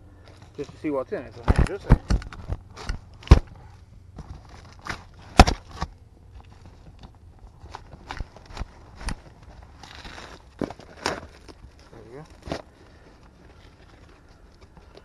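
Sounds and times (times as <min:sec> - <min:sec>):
cardboard rustling and crinkling: 0:00.3 - 0:15.0.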